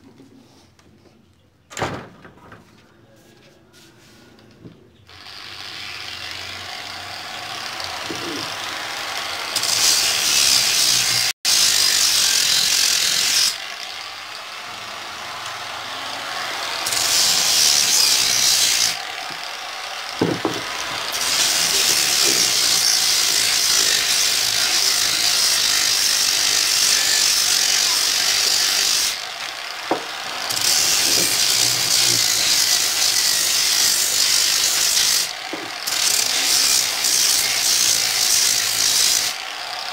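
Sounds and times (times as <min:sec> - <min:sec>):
orbital sander sanding wood: 0:05.1 - 0:39.9.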